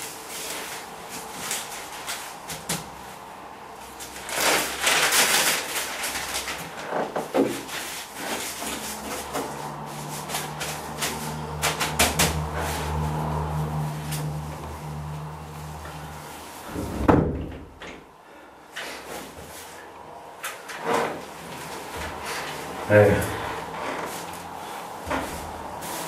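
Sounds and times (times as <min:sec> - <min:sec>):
rustling: 0:00.0 - 0:17.1, 0:18.8 - 0:26.0.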